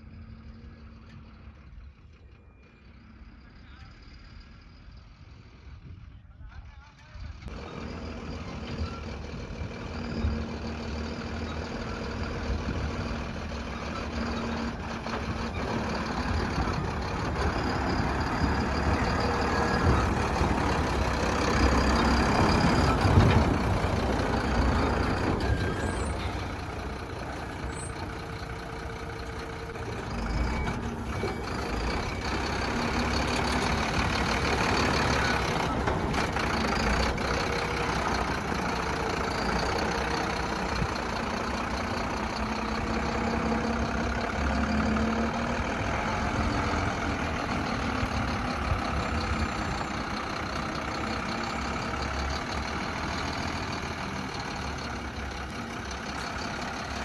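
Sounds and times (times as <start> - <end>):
diesel digger engine under load: 0.0 - 6.2, 7.2 - 57.0.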